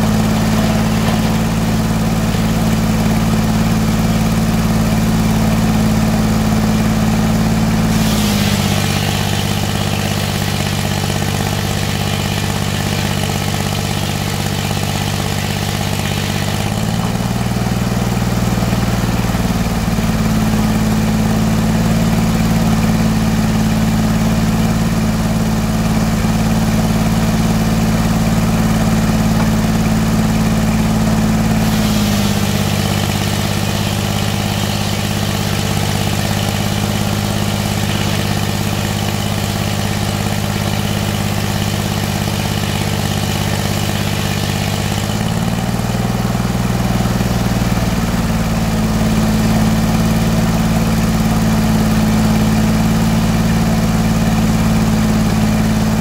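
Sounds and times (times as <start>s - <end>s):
circular sawmill droning: 0.0s - 56.0s.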